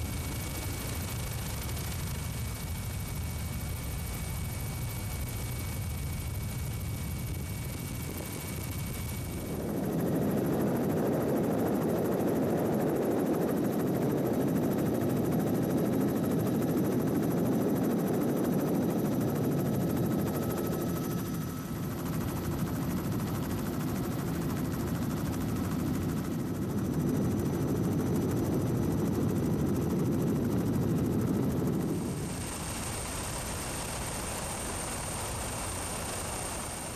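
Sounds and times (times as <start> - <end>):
helicopter engine and rotor: 0.0 - 36.9.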